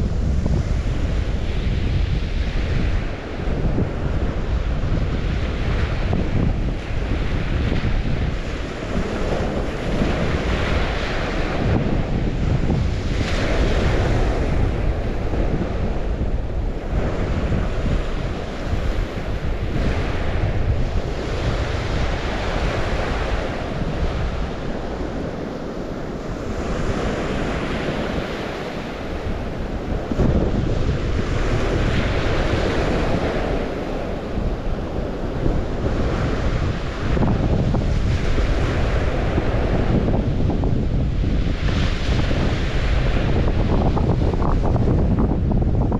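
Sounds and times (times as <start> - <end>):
waves washing on shore: 0.0 - 45.9
wind buffeting microphone: 0.0 - 45.9.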